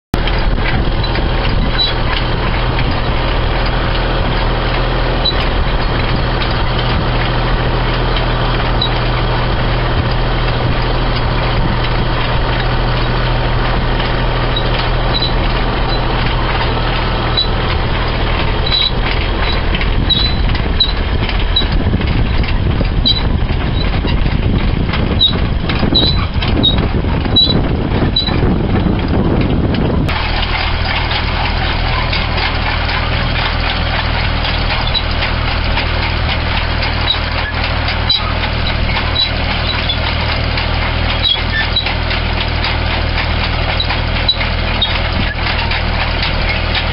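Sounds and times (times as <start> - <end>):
tractor engine running: 0.1 - 46.9
steel chain rattling and clattering: 0.2 - 46.9.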